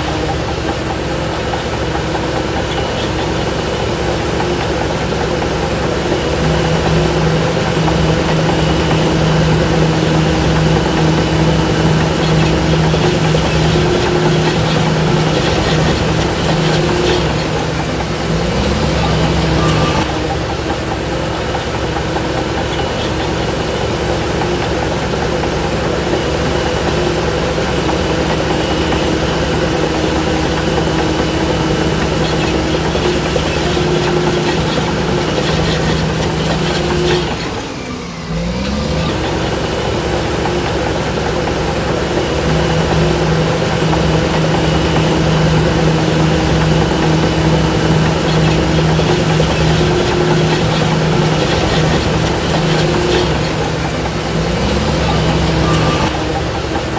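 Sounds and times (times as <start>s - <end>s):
diesel earthmoving machinery running: 0.0s - 56.9s.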